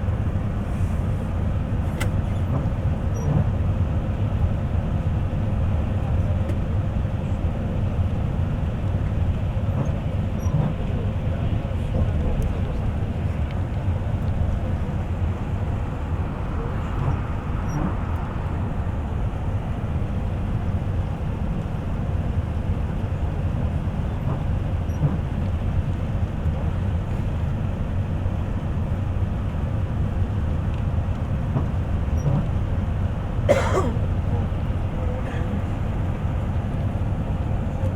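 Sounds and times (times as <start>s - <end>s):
bus engine and tyre rumble: 0.0s - 37.9s.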